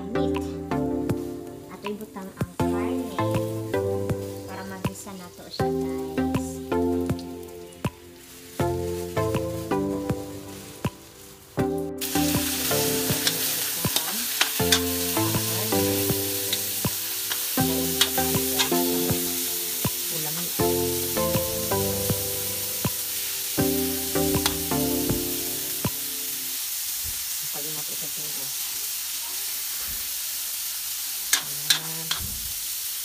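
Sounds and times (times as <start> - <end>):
background music: 0.0 - 26.6
meat sizzling in a wok: 0.8 - 33.0.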